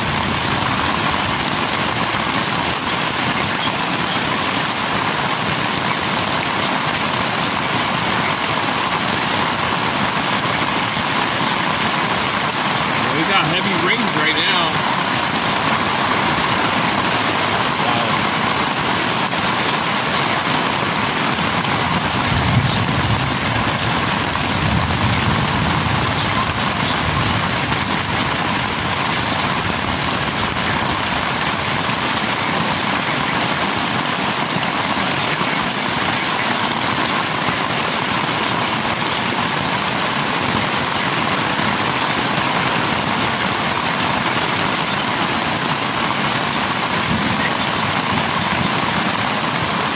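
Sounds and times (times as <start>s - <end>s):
heavy rain on tent: 0.0s - 49.9s.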